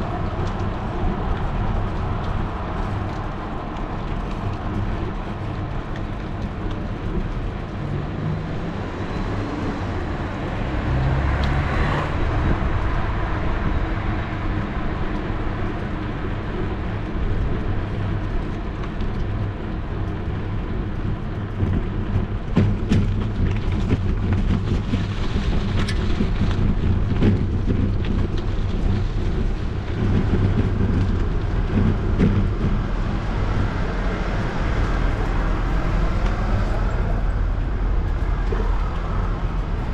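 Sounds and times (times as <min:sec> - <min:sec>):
wind and tyres rumbling: 0:00.0 - 0:39.9.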